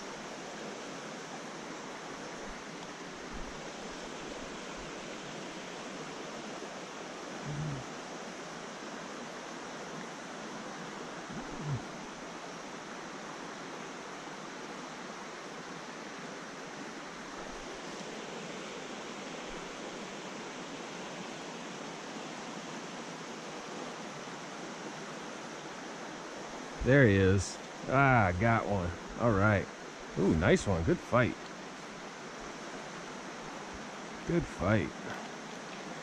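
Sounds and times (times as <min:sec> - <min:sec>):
stream rushing over rocks: 0:00.0 - 0:36.0.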